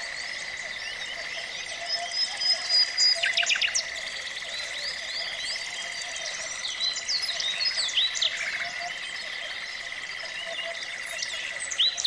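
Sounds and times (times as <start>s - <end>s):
nightingale singing: 0.0s - 12.0s.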